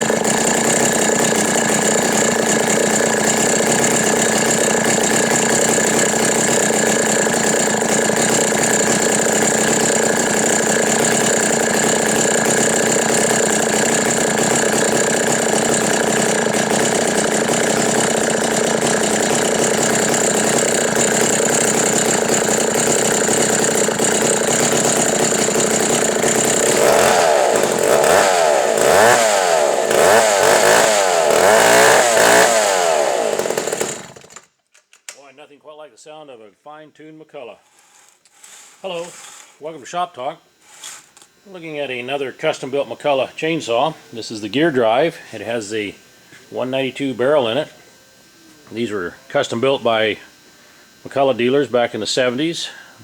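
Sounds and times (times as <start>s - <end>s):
chainsaw engine running: 0.0s - 34.5s, 37.8s - 39.8s, 40.7s - 53.0s.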